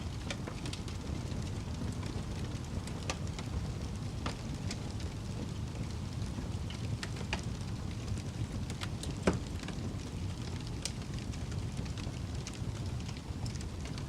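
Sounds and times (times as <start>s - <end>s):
crackling fire: 0.0s - 14.0s.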